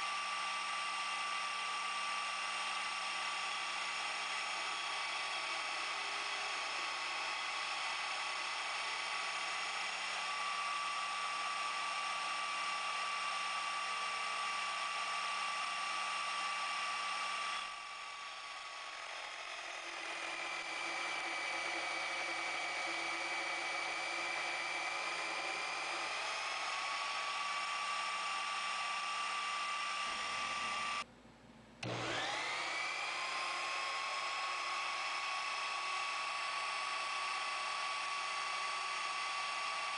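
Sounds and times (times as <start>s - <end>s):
lathe motor whining: 0.0s - 31.1s, 31.8s - 39.9s.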